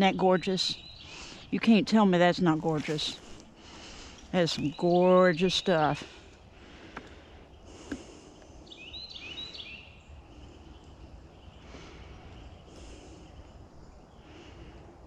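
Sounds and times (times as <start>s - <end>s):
bird chirping: 0.0s - 6.3s, 7.2s - 14.8s.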